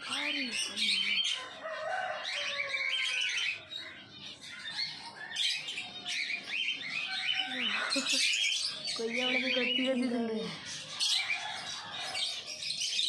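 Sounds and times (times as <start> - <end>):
parakeet chirping and squawking: 0.0 - 13.0.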